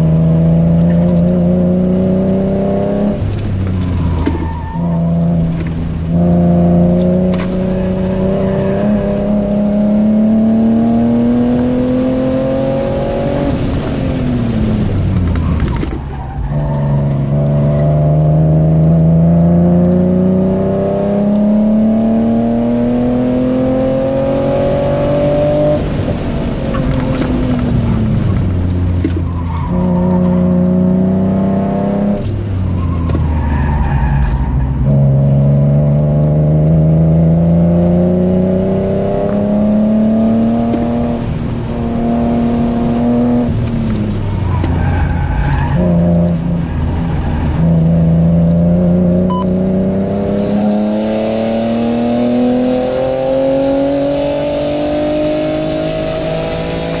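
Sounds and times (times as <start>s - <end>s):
car engine revving hard: 0.0s - 15.2s, 16.7s - 29.0s, 29.7s - 32.3s, 34.7s - 57.0s.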